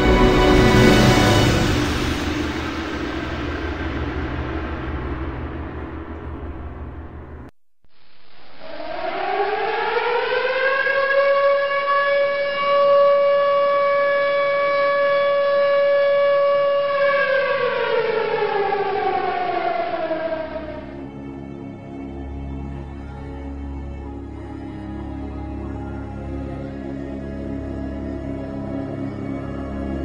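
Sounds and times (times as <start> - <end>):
tornado warning siren wailing: 0.0 - 5.4, 8.5 - 22.0, 22.8 - 30.0.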